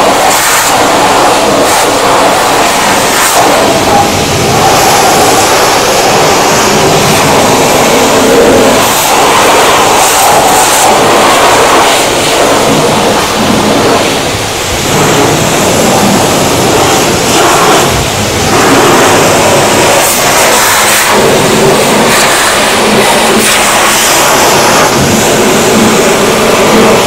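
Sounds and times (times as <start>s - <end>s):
high pressure water spray on metal: 0.0s - 27.0s.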